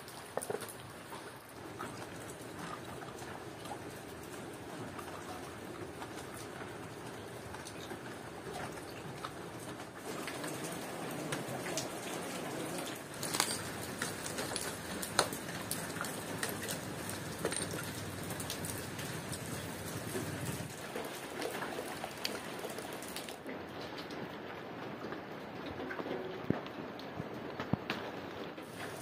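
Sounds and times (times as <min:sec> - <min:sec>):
water drips and taps: 0:00.0 - 0:24.2
rain falling on leaves: 0:00.0 - 0:29.0.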